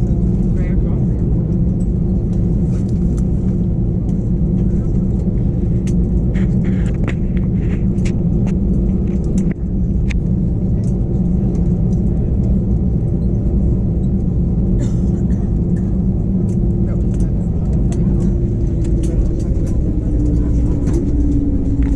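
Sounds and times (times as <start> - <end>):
aircraft engines droning: 0.0 - 21.9.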